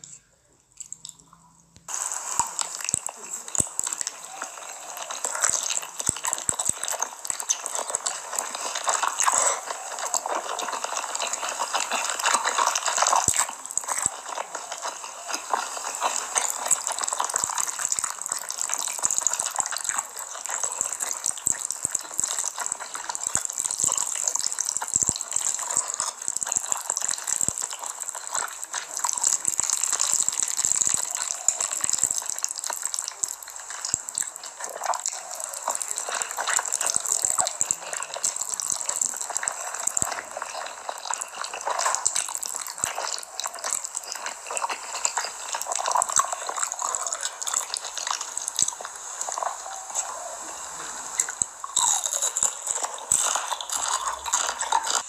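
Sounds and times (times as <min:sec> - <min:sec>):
wet chewing sounds: 0:00.7 - 0:55.0.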